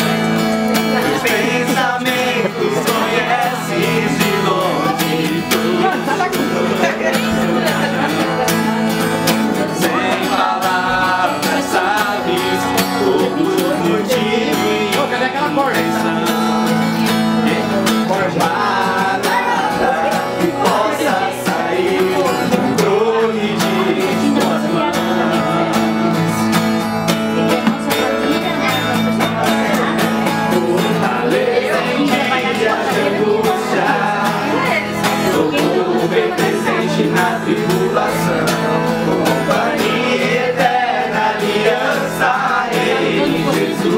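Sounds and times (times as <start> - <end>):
acoustic guitar strumming: 0.0 - 43.9
several voices singing: 0.0 - 43.9.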